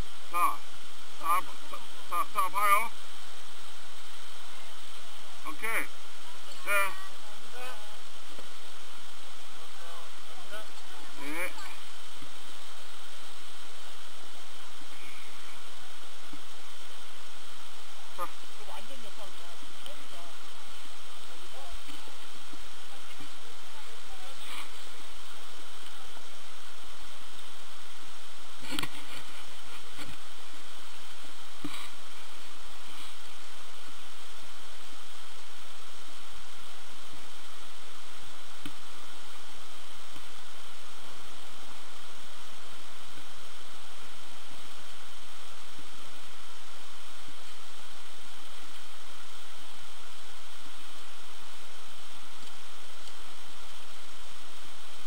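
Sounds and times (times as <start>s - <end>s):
skis hissing over snow: 0.0s - 55.0s.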